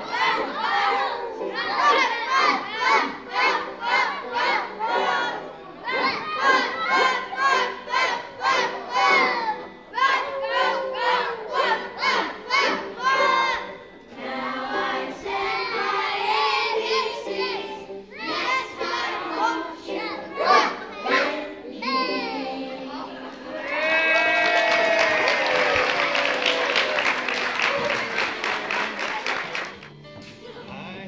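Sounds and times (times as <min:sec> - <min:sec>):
children singing and shouting: 0:00.0 - 0:29.6.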